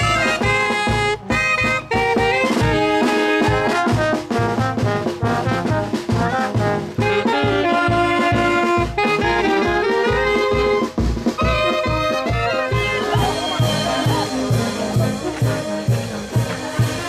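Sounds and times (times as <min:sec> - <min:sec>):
bass drum beat: 0:00.0 - 0:17.0
brass band playing: 0:00.0 - 0:17.0.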